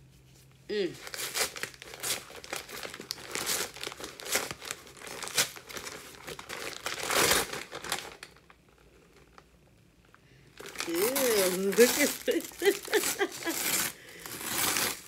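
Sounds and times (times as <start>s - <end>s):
packing paper crumpling: 1.0s - 9.4s, 10.6s - 15.0s.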